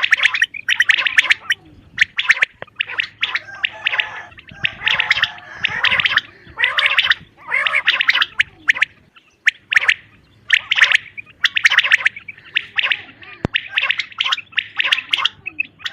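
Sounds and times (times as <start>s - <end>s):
quail calling: 0.0s - 15.9s.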